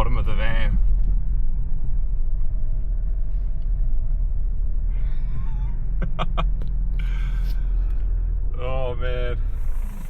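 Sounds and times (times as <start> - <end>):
van engine and tyres rumbling: 0.0 - 10.0.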